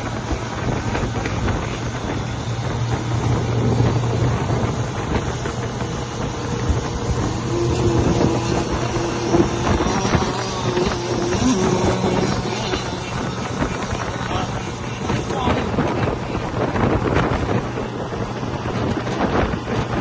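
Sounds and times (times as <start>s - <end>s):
higher boat motor tone: 0.0s - 20.0s
model boat motor drone: 0.0s - 20.0s
wind noise on microphone: 0.0s - 20.0s.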